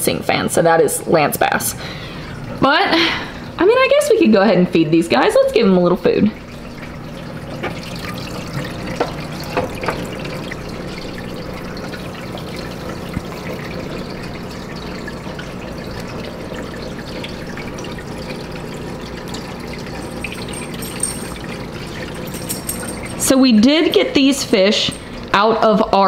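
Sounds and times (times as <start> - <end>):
filter water trickling and bubbling: 0.3 - 26.0.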